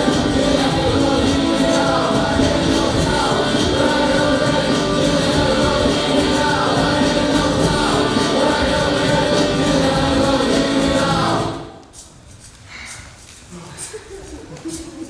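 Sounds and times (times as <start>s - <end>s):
music with singing voices: 0.0s - 12.2s.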